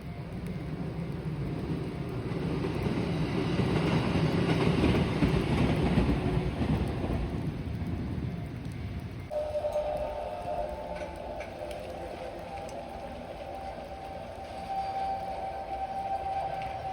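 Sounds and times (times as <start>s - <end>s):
train rumbling on rails: 0.0s - 16.9s.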